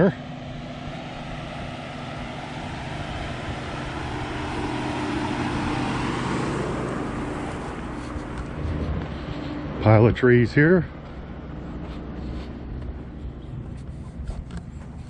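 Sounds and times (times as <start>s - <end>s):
broad rushing noise: 0.0s - 15.0s
vehicle engine running: 0.0s - 15.0s.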